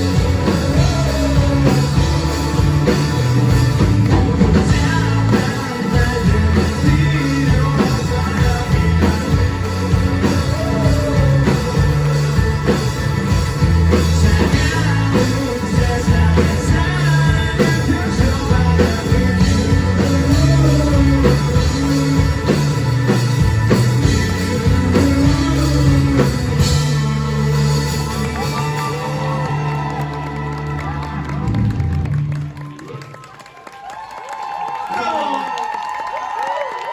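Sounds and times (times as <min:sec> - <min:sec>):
person singing: 0:00.0 - 0:30.7
rock band playing live: 0:00.0 - 0:33.1.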